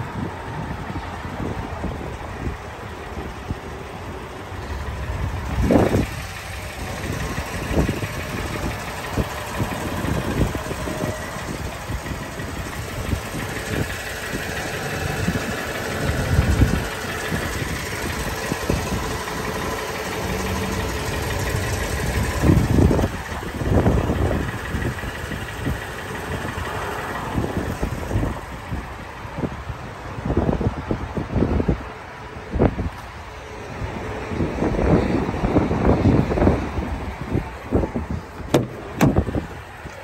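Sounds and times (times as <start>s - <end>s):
vehicle engine idling: 0.0s - 40.0s
wind buffeting microphone: 0.0s - 40.0s.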